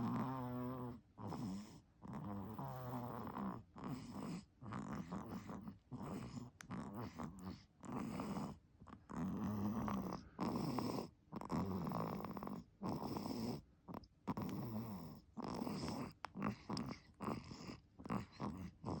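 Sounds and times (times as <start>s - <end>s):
infant snoring: 0.0s - 19.0s.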